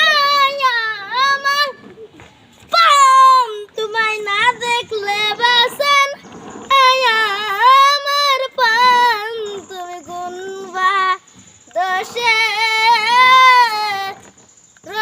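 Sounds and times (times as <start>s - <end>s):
child singing: 0.0s - 15.0s.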